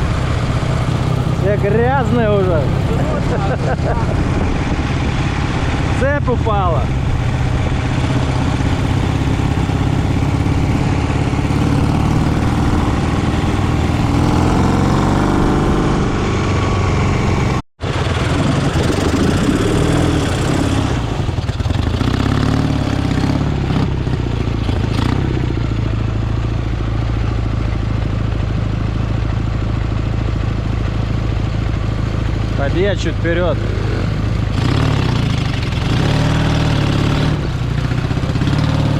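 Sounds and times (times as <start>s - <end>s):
engine running and revving: 0.0s - 38.9s.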